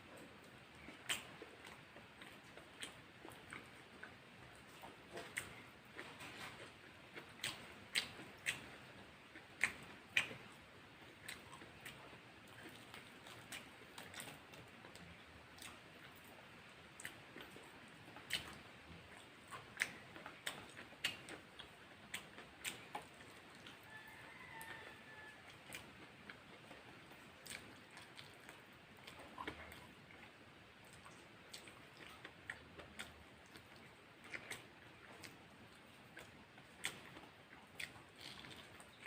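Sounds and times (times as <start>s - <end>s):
chewing clicks and smacks: 0.1s - 39.0s.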